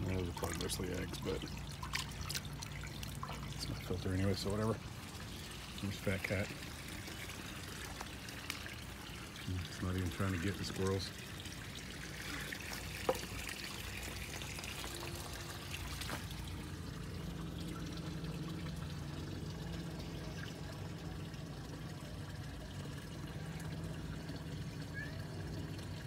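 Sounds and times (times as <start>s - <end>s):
water trickling and pouring: 0.0s - 26.0s.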